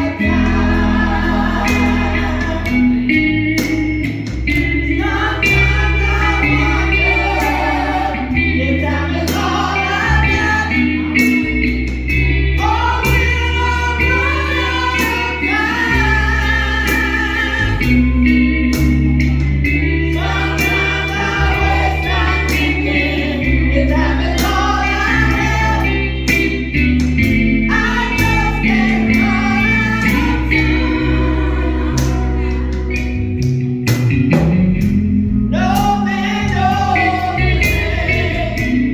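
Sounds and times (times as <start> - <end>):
gospel music with singing: 0.0 - 38.9.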